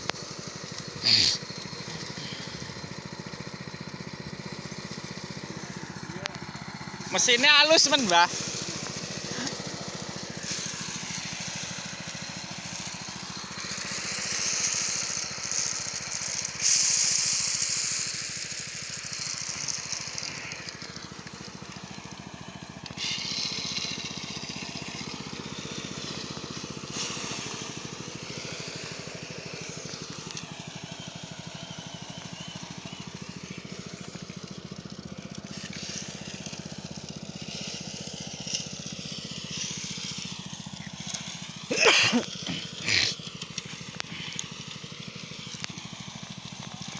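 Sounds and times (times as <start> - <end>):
rushing hiss: 0.0 - 3.2, 7.0 - 34.6, 37.3 - 46.9
small engine running steadily: 0.0 - 46.9.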